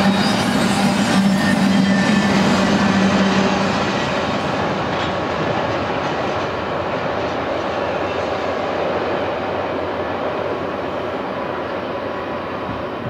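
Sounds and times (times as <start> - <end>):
freight train rolling: 0.0 - 13.0.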